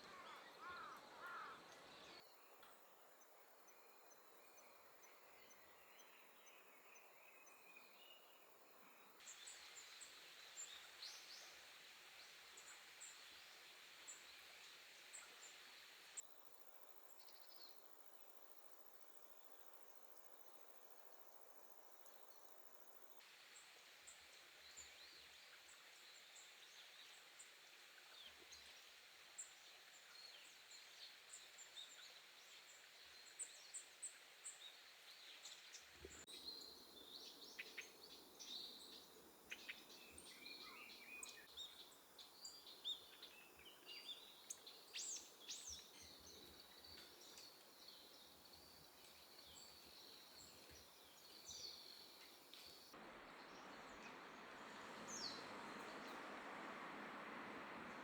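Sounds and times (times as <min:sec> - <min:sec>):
songbirds chirping: 0:00.0 - 0:18.4, 0:19.2 - 0:58.0
faint outdoor hiss: 0:00.0 - 0:58.0.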